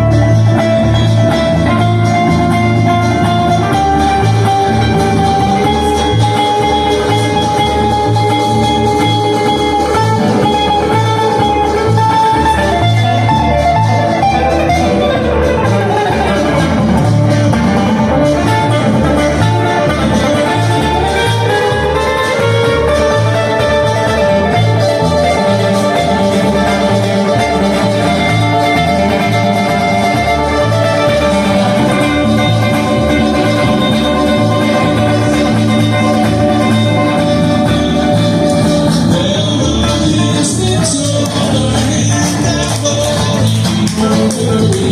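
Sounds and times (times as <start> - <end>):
acoustic guitars playing: 0.0 - 44.9
upright bass plucking low notes: 0.0 - 44.9.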